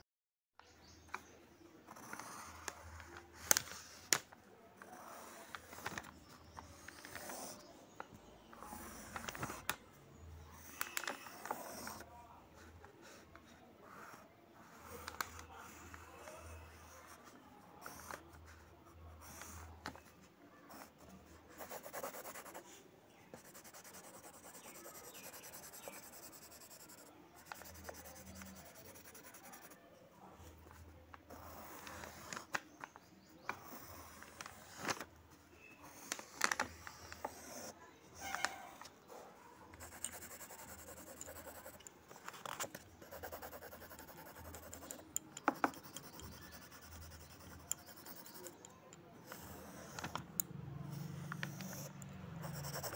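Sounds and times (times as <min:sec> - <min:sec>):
pencil scratching on paper: 0:01.8 - 0:04.1, 0:04.8 - 0:07.9, 0:08.5 - 0:09.7, 0:10.6 - 0:29.9, 0:30.5 - 0:32.5, 0:33.4 - 0:35.0, 0:35.6 - 0:38.4, 0:39.7 - 0:52.9.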